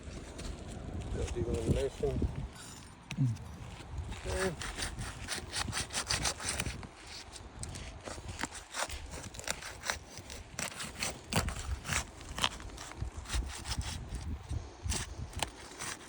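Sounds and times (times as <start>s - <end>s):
crackling and scraping clicks: 0.0s - 16.0s.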